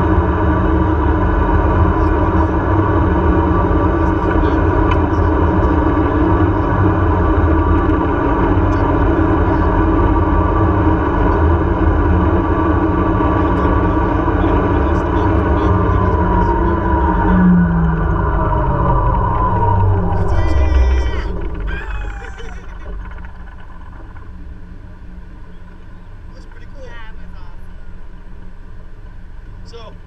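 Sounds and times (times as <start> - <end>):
zipline trolley rushing on cable: 0.0 - 27.7
faint steady whine: 0.0 - 30.0.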